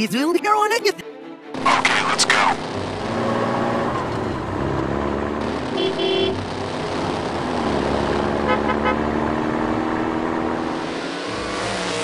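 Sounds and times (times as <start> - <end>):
vehicle engine running: 1.6 - 12.0.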